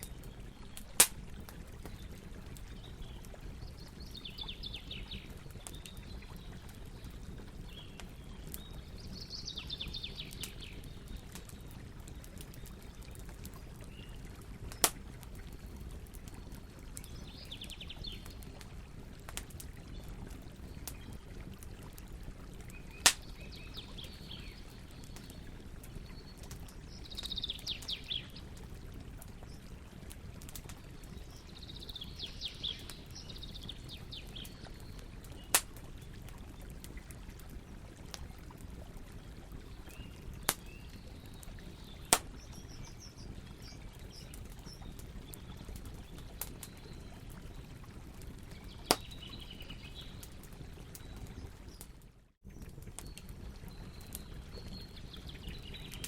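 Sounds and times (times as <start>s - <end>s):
campfire burning: 0.0s - 56.0s.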